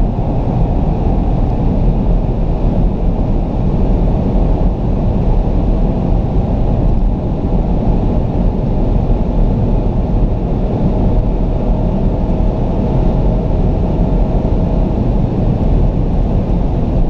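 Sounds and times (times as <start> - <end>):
faint turbo whine: 0.0 - 17.0
wind and road noise: 0.0 - 17.0.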